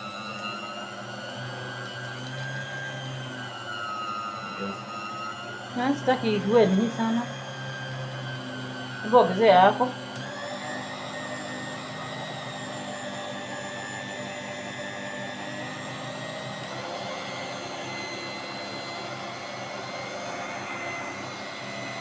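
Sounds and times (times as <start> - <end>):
electric mixer motor whining: 0.0 - 22.0.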